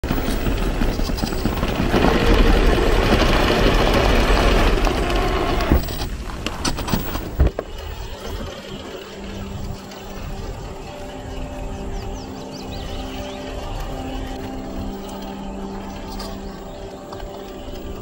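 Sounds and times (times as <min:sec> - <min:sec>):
toy car tyres crunching over dirt: 0:00.0 - 0:18.0.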